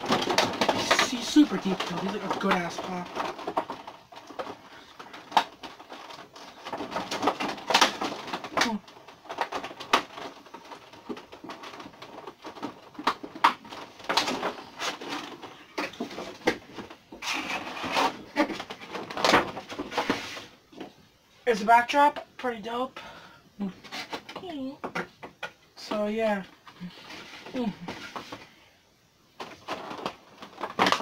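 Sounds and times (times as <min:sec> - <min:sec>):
cardboard and plastic packaging rustling: 0:00.0 - 0:31.0.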